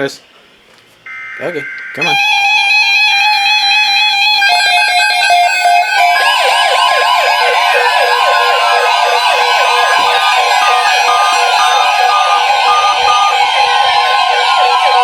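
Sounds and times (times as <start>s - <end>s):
steady alarm tone: 1.0s - 15.0s
warbling siren alarm: 1.1s - 15.0s.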